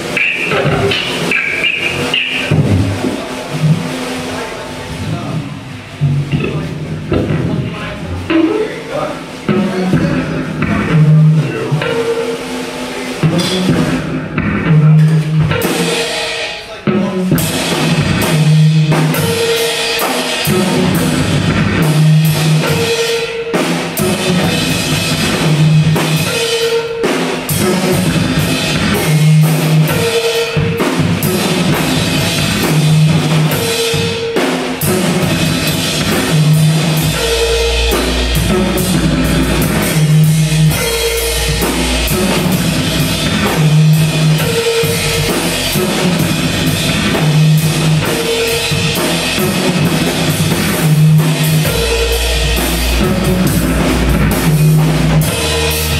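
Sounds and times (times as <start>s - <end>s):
deep bass: 0.0s - 12.0s, 13.2s - 15.6s, 16.9s - 19.2s, 20.5s - 22.7s, 24.0s - 26.2s, 27.6s - 29.9s, 31.2s - 33.6s, 34.8s - 55.9s
acoustic drum kit: 0.0s - 55.9s.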